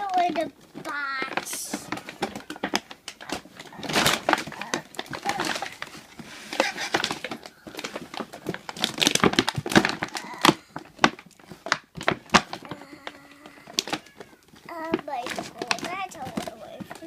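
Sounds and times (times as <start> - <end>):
packaging crinkling: 0.0 - 17.0
plastic toys clicking and knocking: 0.0 - 17.0.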